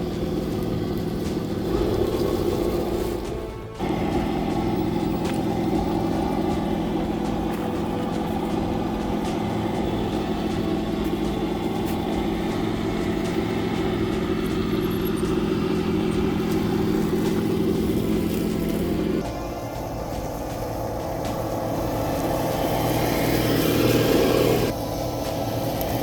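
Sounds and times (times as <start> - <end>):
electric motor and gears humming: 0.0 - 26.0.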